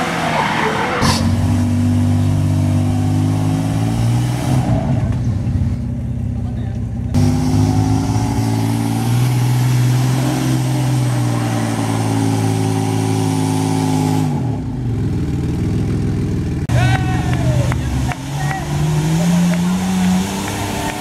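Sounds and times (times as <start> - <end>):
engines revving hard: 0.0 - 5.6, 7.1 - 15.2, 16.6 - 21.0.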